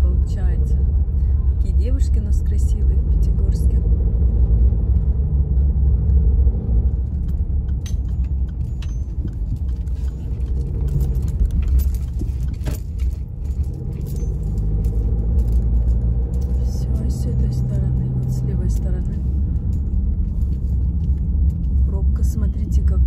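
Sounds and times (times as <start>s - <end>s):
car engine and road rumble: 0.0s - 23.0s
light clicks and rattles: 4.2s - 23.0s.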